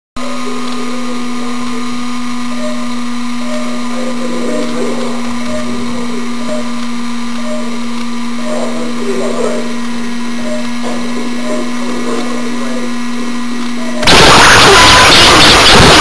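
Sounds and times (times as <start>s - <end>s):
faint wavering sounds: 0.2s - 14.1s
steady buzz: 0.2s - 16.0s.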